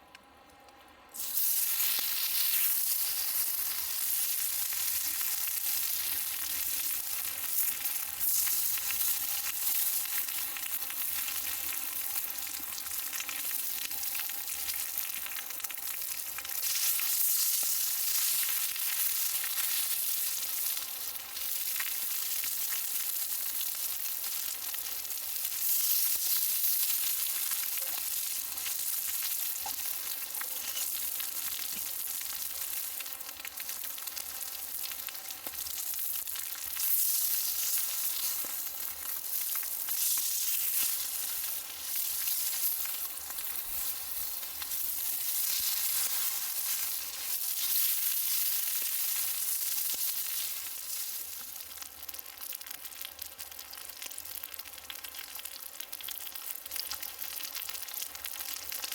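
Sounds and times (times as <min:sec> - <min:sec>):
food sizzling in a pan: 0:01.1 - 0:58.9.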